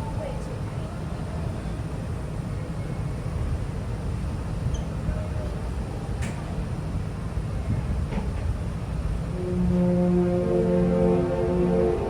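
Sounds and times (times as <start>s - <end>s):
ship noise: 0.0s - 12.0s
wind: 0.0s - 12.0s.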